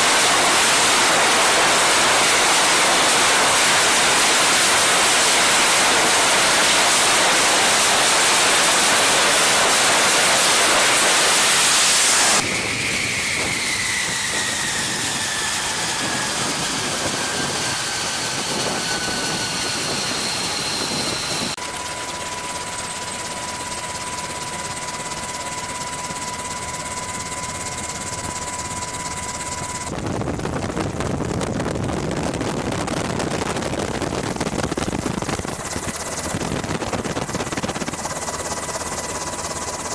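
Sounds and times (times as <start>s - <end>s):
jet engine roar: 0.0s - 39.9s
jet engine whine: 0.0s - 39.9s.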